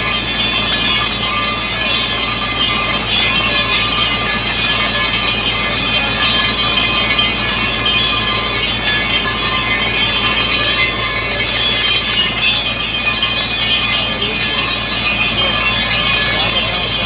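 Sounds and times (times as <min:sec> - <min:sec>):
drilling rig running: 0:00.0 - 0:17.0.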